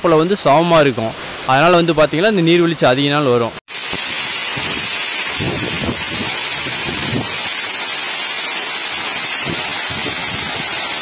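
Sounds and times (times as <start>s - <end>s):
waterfall rushing: 0.1s - 11.0s.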